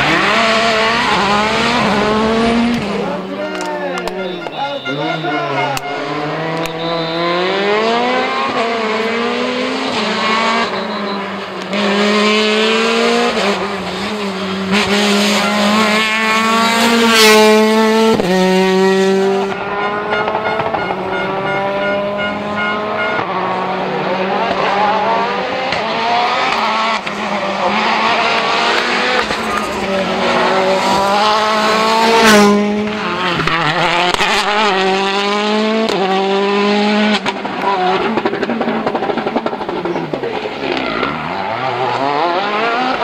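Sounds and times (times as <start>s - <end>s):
rally car engine at full throttle: 0.0s - 43.0s.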